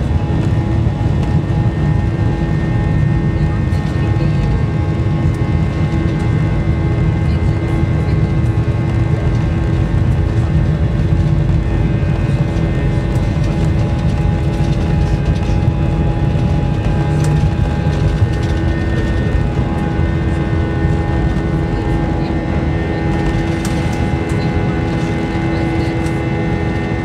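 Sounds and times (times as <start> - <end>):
jet engines humming at idle: 0.0 - 27.0.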